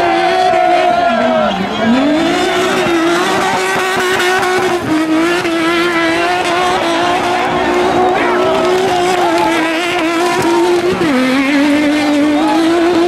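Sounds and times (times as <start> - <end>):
car engine at high revs: 0.0 - 13.0
tyre noise: 0.0 - 13.0.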